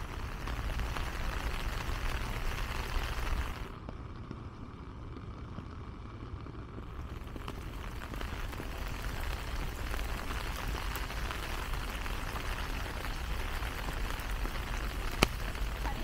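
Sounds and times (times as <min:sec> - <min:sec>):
raindrop ticks: 0:00.0 - 0:16.0
steady rain hiss: 0:00.0 - 0:16.0.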